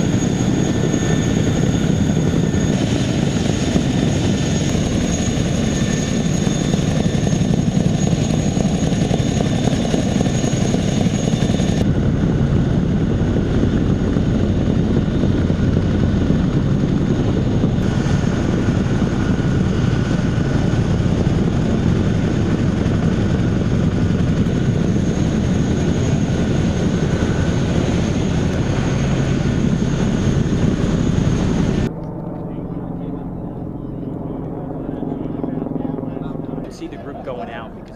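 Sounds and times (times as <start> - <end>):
helicopter rotors rushing: 0.0 - 37.9
turbine whine: 0.0 - 37.9.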